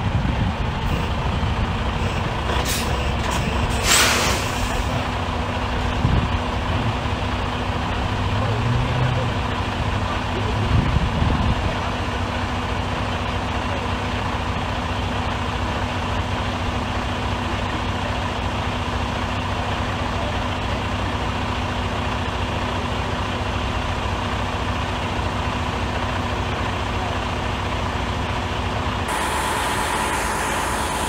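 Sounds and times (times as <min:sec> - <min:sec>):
truck diesel engine idling: 0:00.0 - 0:31.0.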